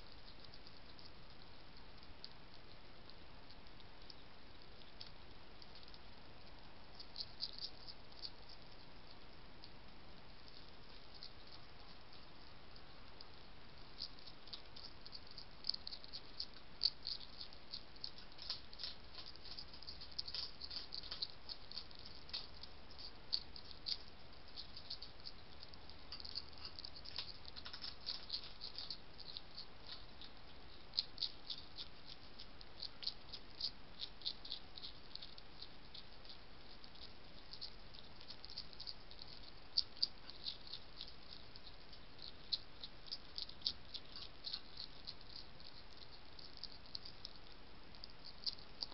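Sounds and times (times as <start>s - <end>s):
hedgehog chewing crunches: 0.0s - 48.9s
steady camera hiss: 0.0s - 48.9s.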